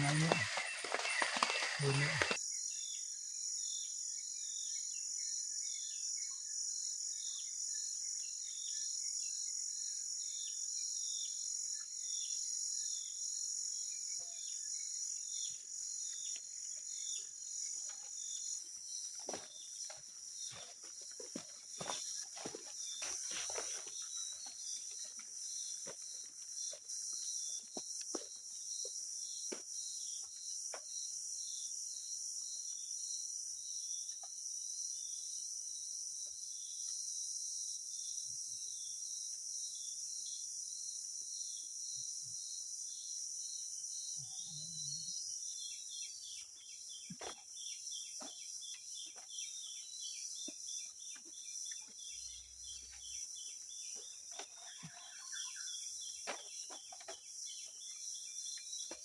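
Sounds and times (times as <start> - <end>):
high-pitched insect hiss: 0.0 - 50.9
insect chirping: 0.0 - 59.0.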